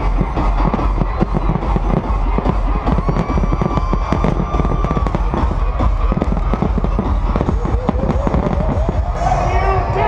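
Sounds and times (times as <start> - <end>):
dance music with heavy bass: 0.0 - 10.0
fireworks cracking and banging: 0.0 - 10.0.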